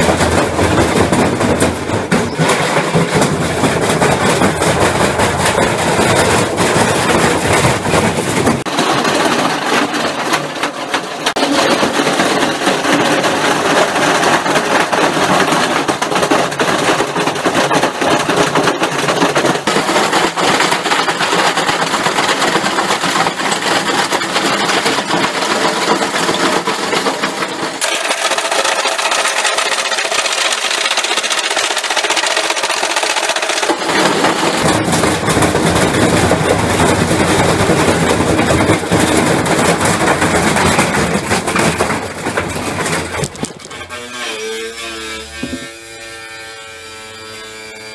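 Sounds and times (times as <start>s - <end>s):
washing machine rattling and banging: 0.0s - 44.4s
brick hammering inside washing machine: 0.0s - 45.8s.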